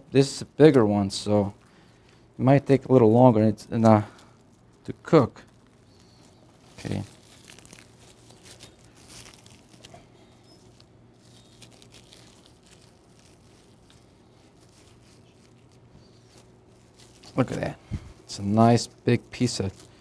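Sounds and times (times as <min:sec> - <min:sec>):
low steady hum: 0:00.0 - 0:20.0
plastic wrap crinkling: 0:00.3 - 0:20.0.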